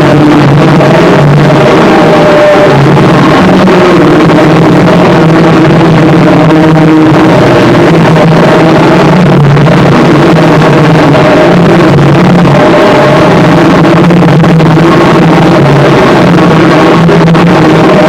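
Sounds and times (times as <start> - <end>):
buzzing drones: 0.0 - 18.0
distorted harsh noise: 0.0 - 18.0.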